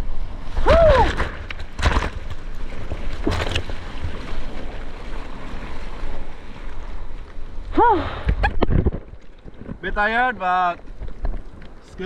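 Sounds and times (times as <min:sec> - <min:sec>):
sea water sloshing and splashing: 0:00.0 - 0:12.0.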